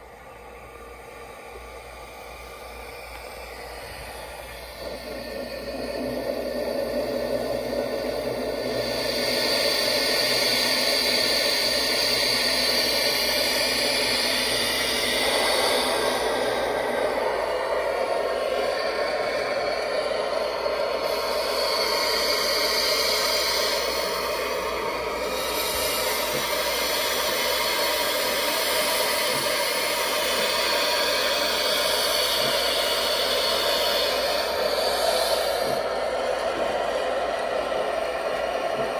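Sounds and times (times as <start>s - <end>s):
steam hissing: 0.0s - 38.9s.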